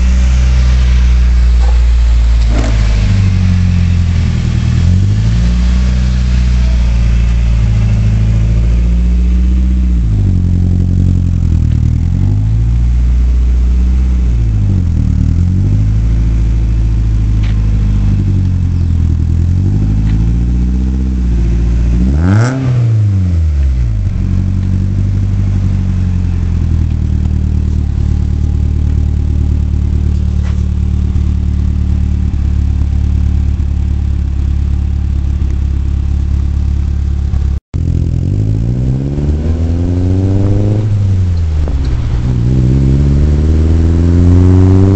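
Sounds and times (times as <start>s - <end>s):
car engine through exhaust: 0.0s - 44.9s.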